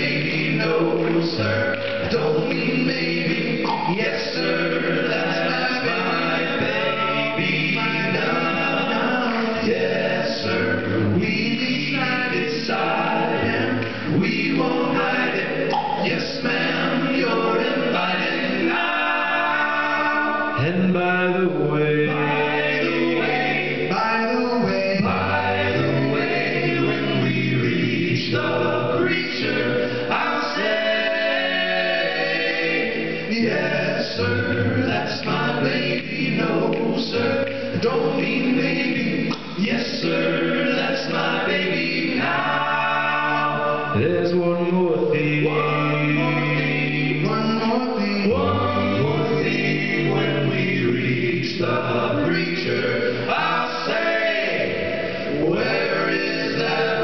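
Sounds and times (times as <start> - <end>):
male vocal group singing: 0.0 - 57.0.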